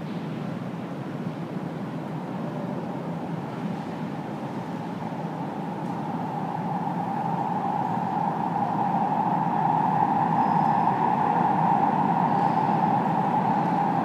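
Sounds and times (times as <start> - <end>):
metro train approaching in tunnel: 0.0 - 14.0.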